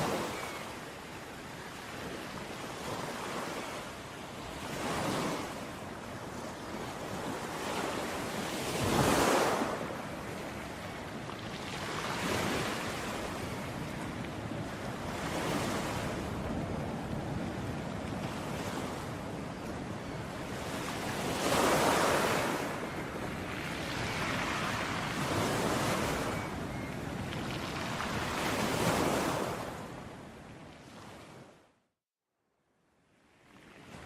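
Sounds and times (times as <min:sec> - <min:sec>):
sea waves breaking on shore: 0:00.0 - 0:31.6.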